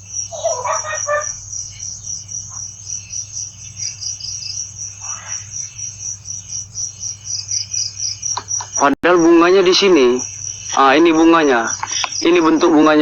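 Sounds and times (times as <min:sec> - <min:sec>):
crickets chirping: 0:00.0 - 0:13.0
steady low hum: 0:00.0 - 0:13.0.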